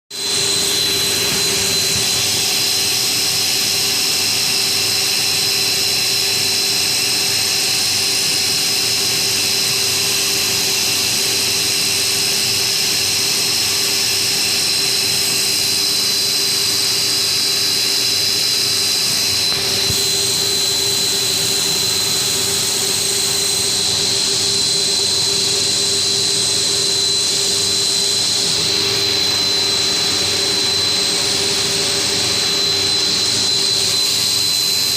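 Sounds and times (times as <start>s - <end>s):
milling machine whining: 0.2s - 34.9s.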